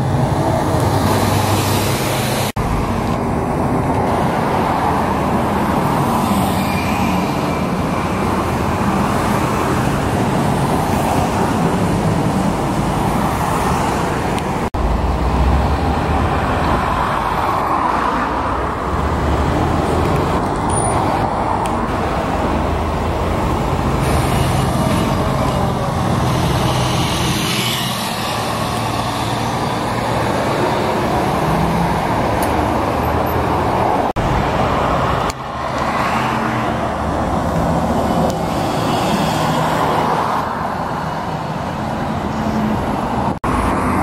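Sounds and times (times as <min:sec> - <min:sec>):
buses and cars driving past: 0:00.0 - 0:44.0.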